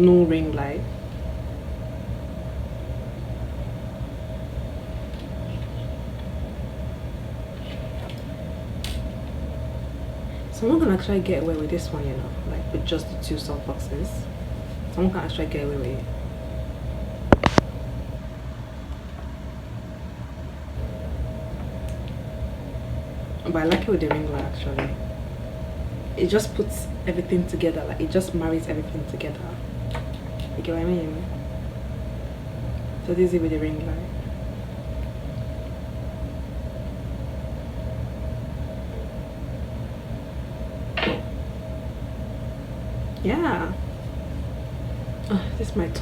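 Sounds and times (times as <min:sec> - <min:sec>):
faint constant tone: 0:00.0 - 0:46.0
low background rumble: 0:00.0 - 0:46.0
steady low hum: 0:00.0 - 0:46.0.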